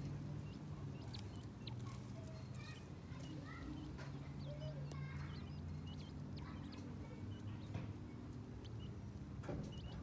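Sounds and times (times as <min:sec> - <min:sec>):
birds pecking at food: 0:00.0 - 0:10.0
quail chicks peeping: 0:00.0 - 0:10.0.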